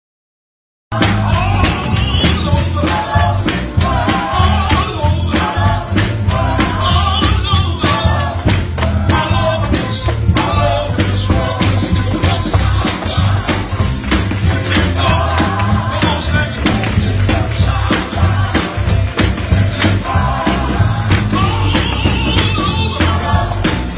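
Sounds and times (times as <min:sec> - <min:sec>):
singing voices: 0:00.9 - 0:23.9
tambourine and percussion beat: 0:00.9 - 0:23.9.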